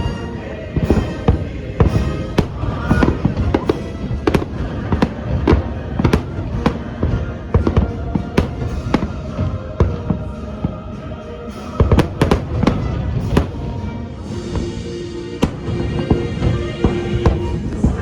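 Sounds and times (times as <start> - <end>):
fireworks bangs: 0.0 - 10.6, 11.7 - 18.0
music soundtrack: 0.0 - 18.0.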